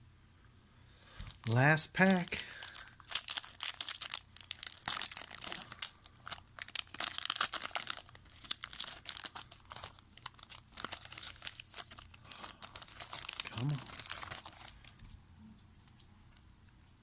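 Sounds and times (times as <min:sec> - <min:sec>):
plastic wrapper crinkling and tearing: 0:01.2 - 0:15.0.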